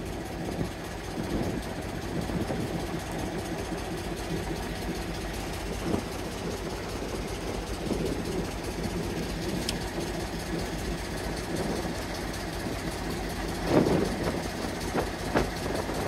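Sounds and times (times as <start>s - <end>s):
small boat engine running: 0.0s - 16.0s.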